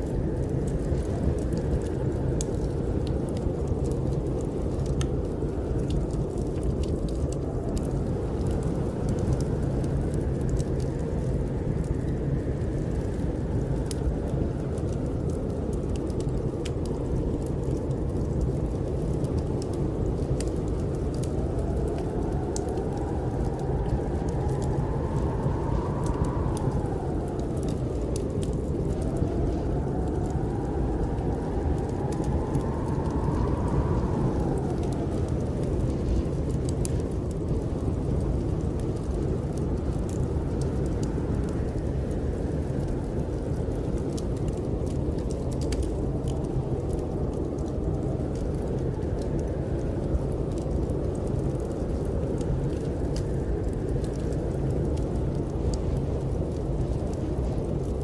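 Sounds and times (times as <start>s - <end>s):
low rumble: 0.0s - 58.0s
wind howling in gusts: 0.0s - 58.0s
wood fire crackling: 0.0s - 58.0s.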